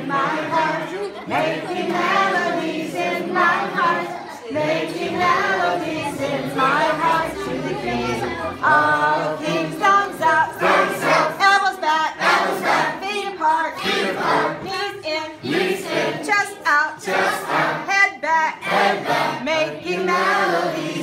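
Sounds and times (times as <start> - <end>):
children and adults singing in chorus: 0.0 - 21.0.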